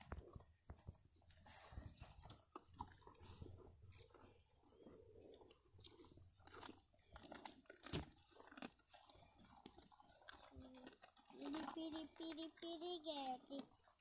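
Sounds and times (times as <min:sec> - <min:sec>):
cattle chewing: 0:00.0 - 0:14.0.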